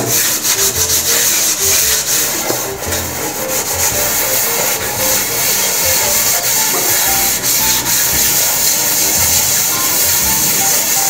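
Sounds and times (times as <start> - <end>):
scourer scrubbing metal pot: 0.0 - 11.0.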